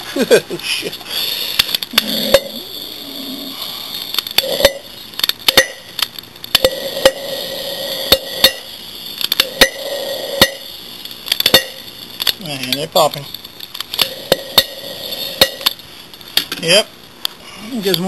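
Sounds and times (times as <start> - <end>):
faint steady sizzle: 0.0 - 18.0.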